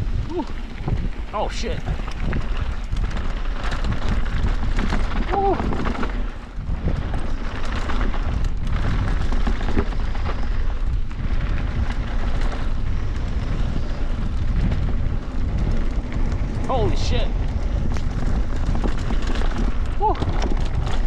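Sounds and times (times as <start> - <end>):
bike tyres rattling on dirt trail: 0.0 - 21.0
wind buffeting microphone: 0.0 - 21.0.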